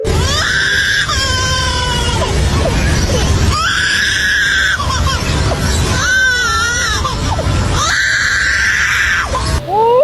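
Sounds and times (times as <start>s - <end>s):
steady low rumble: 0.0s - 9.8s
animal screaming calls: 0.2s - 10.0s.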